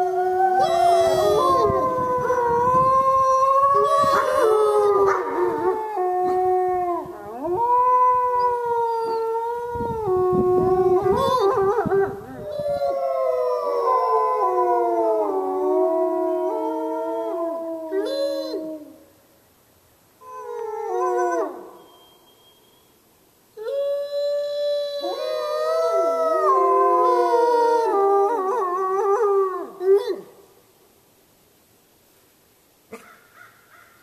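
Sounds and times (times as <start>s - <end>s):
wolves howling: 0.0s - 19.0s, 20.2s - 22.2s, 23.6s - 30.3s.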